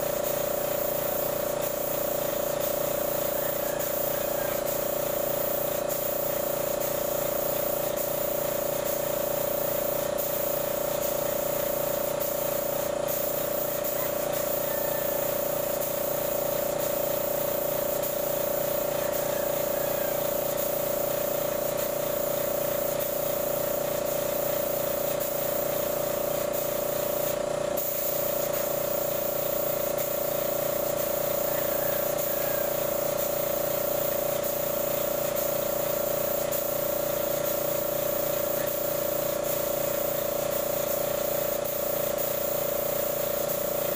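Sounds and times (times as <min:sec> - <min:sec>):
air compressor humming: 0:00.0 - 0:43.9
spray gun hissing: 0:00.0 - 0:43.9.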